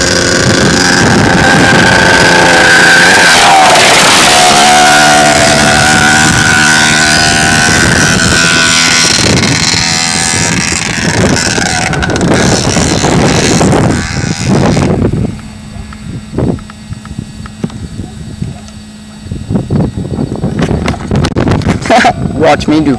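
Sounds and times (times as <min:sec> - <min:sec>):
dirt bike engine revving: 0:00.0 - 0:22.9
wind buffeting microphone: 0:00.0 - 0:22.9.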